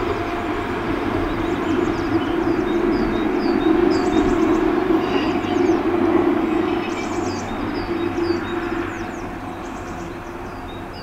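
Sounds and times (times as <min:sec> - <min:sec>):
diesel railcar engine hum: 0:00.0 - 0:11.0
rail rumble: 0:00.0 - 0:11.0.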